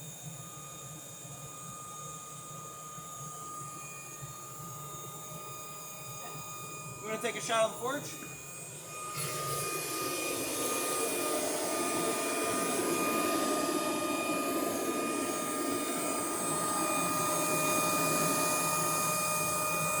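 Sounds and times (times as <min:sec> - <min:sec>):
blower motor whine: 0:00.0 - 0:20.0.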